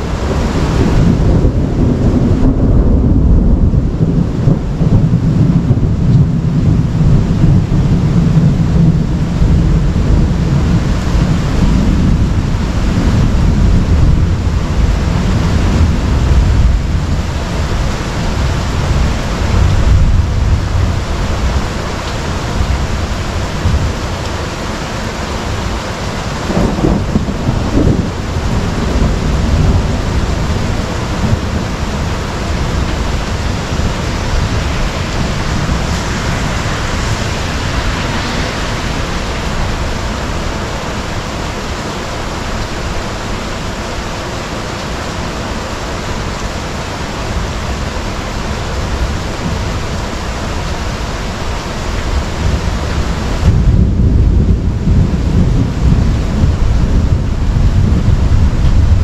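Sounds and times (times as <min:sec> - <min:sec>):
heavy rain pouring: 0:00.0 - 0:59.0
thunder rumbling: 0:00.0 - 0:59.0.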